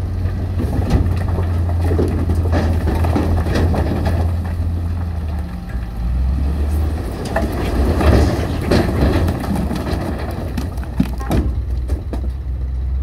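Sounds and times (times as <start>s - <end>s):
rock and steel clanking: 0.0s - 12.8s
diesel engine under load: 0.0s - 13.0s.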